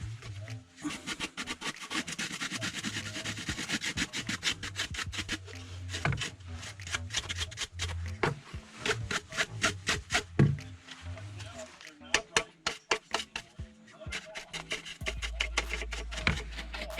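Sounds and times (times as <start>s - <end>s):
bristle brush scrubbing: 0.0s - 16.9s.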